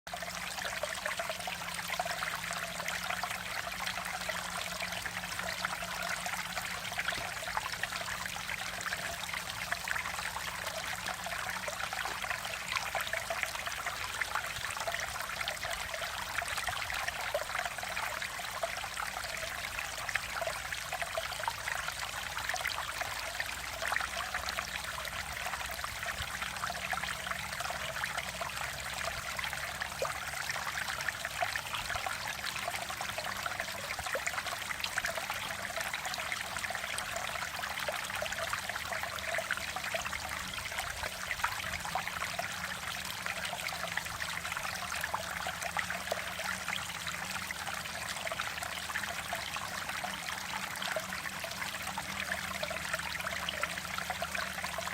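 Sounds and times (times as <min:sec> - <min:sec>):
stream water rushing and trickling: 0:00.1 - 0:54.9.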